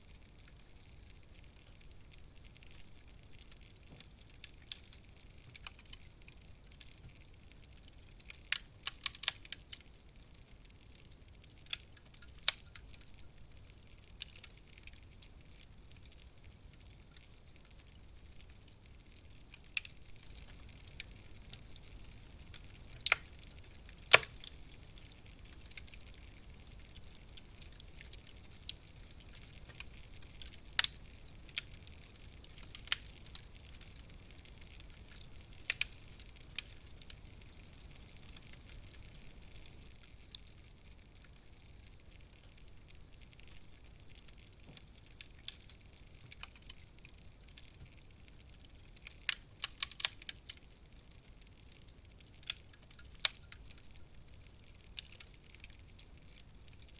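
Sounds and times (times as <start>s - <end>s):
wood fire crackling: 0.0s - 56.9s
fire pops and snaps: 0.1s - 56.9s.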